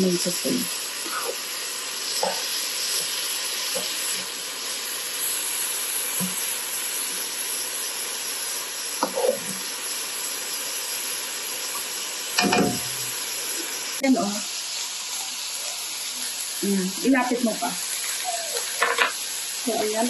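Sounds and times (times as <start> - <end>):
meat and onion sizzling in a pan: 0.0 - 20.0.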